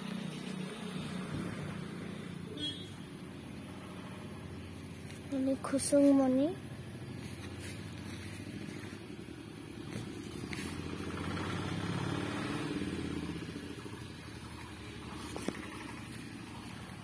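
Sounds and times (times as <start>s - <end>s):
vehicle engine passing by: 0.0s - 17.0s.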